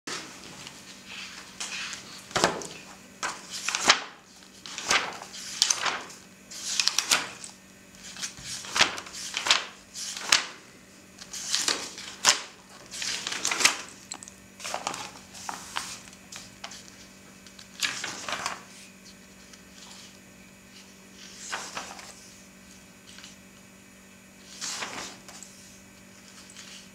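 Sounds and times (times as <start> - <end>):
magazine pages rustling: 0.1 - 7.4, 8.0 - 10.6, 11.2 - 14.0, 14.6 - 20.2, 21.2 - 23.5, 24.4 - 26.9.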